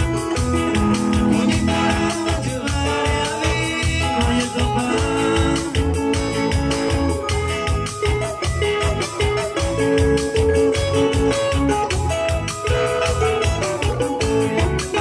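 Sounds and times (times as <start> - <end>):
keyboard organ-like notes: 0.0 - 15.0
live band music: 0.0 - 15.0.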